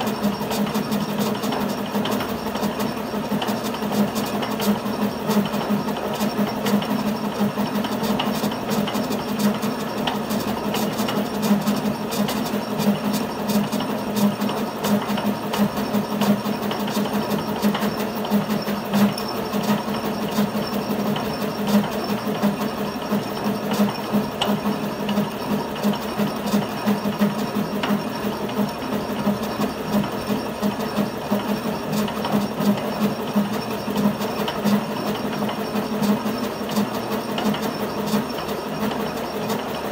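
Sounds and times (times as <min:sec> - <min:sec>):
rhythmic clatter of cutting: 0:00.0 - 0:39.9
metal lathe running: 0:00.1 - 0:39.9.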